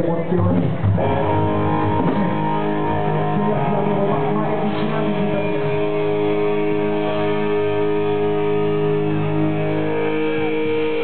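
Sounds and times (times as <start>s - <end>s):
electric guitars ringing chords: 0.0s - 11.0s
rock band playing: 0.1s - 11.0s.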